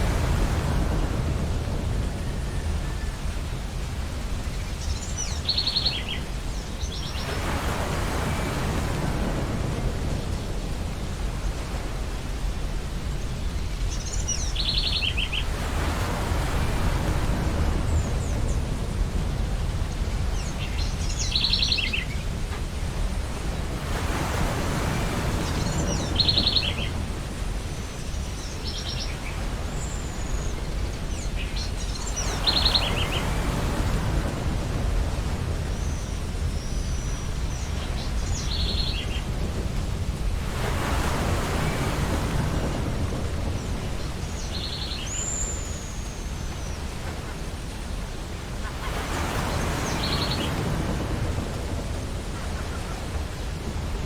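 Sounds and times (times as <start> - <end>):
ocean surf washing onto beach: 0.0 - 54.0.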